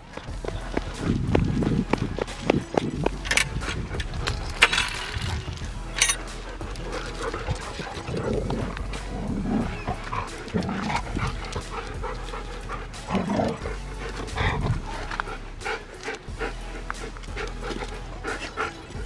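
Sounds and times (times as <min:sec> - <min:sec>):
dogs panting: 0:00.0 - 0:19.0.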